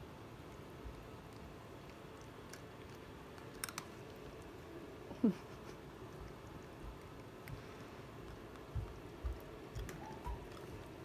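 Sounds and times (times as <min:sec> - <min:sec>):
cat crunching treat: 0:00.4 - 0:11.0.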